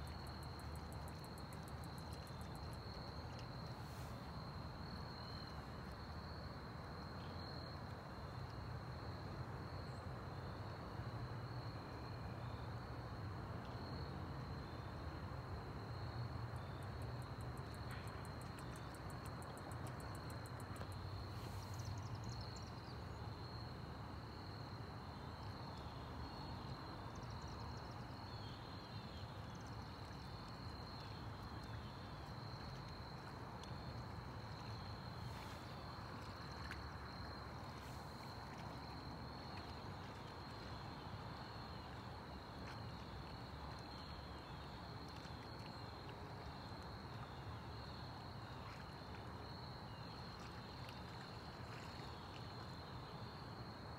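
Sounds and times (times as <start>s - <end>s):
insects trilling: 0.0s - 7.7s, 15.9s - 53.9s.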